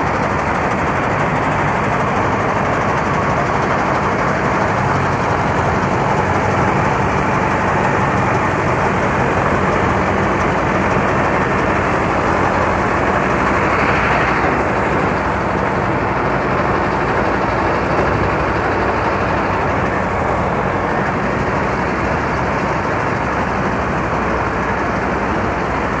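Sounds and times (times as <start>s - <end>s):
combine harvester engine hum: 0.0s - 26.0s
mechanical rush of threshing: 0.3s - 22.2s.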